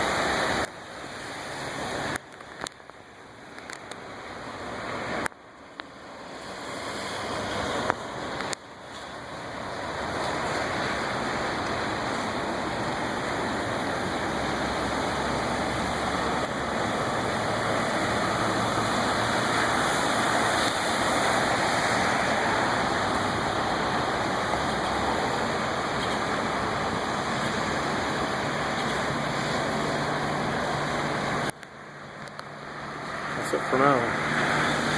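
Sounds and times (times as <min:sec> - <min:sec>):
floodwater rushing: 0:00.0 - 0:34.9.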